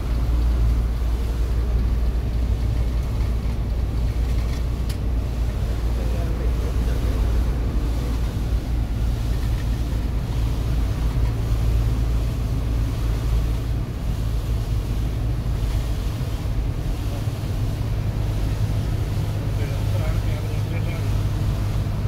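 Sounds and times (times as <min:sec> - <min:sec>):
low engine drone: 0:00.0 - 0:22.0
tyres hissing on wet road: 0:00.0 - 0:22.0.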